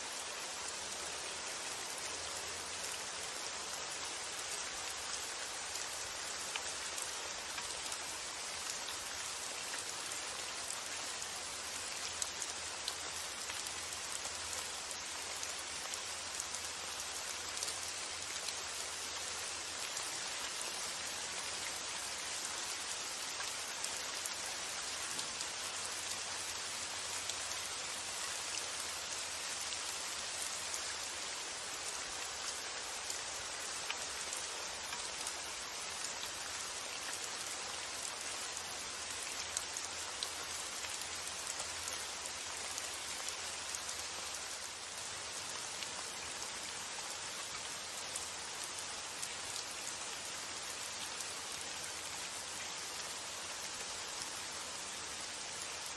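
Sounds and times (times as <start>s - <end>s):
rain hissing: 0.0s - 55.9s.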